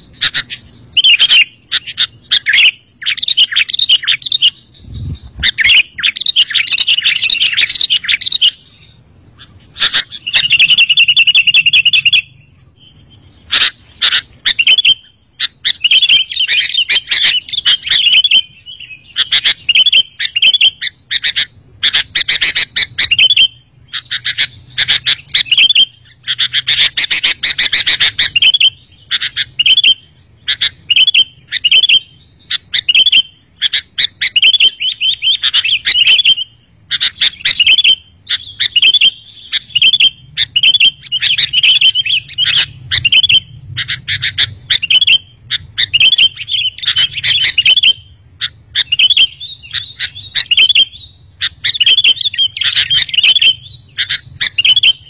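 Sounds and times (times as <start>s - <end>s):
bulbuls singing and chattering: 0.0s - 55.0s.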